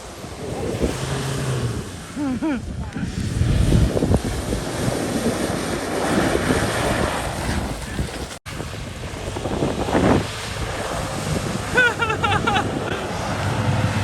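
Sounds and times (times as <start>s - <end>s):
surf: 0.0s - 14.0s
vehicle running on sand: 0.0s - 14.0s
wind buffeting microphone: 0.0s - 14.0s.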